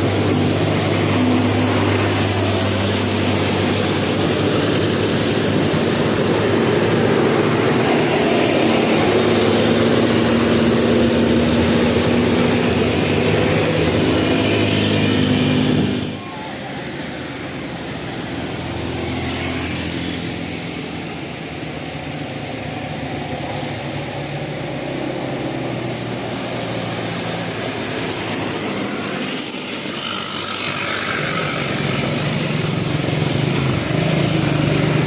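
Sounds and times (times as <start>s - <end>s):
vehicles passing by: 0.0s - 35.0s.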